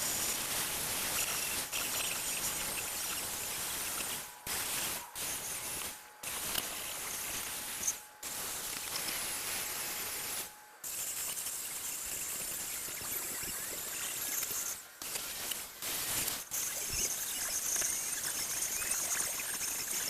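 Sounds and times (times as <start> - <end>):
pressurised spray hissing: 0.0 - 20.0.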